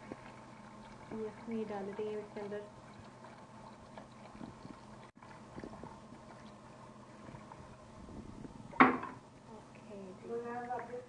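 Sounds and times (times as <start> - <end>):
food crackling and bubbling in pot: 0.0 - 11.0.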